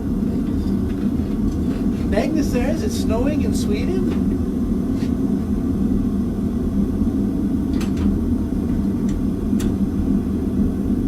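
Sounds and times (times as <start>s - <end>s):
gas forge burner roaring: 0.0s - 11.0s.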